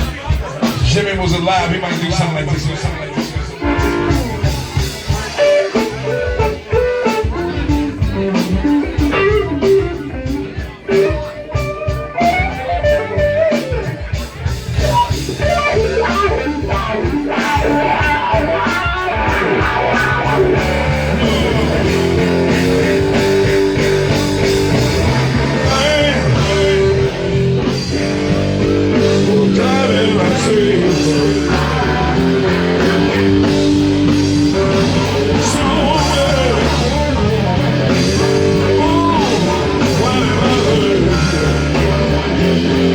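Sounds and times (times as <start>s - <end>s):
electric guitar: 0.0s - 42.9s
live blues-rock band: 0.0s - 42.9s.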